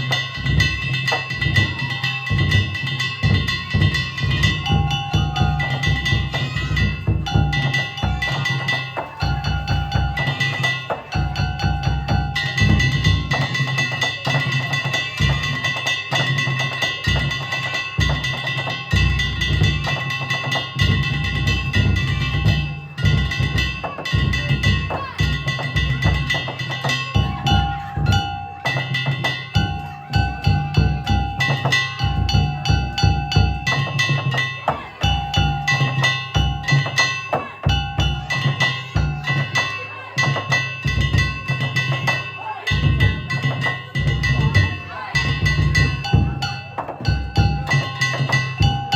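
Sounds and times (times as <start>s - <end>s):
high held tones: 0.0s - 48.9s
metallic gongs: 0.0s - 48.9s
taiko drums: 0.0s - 48.9s.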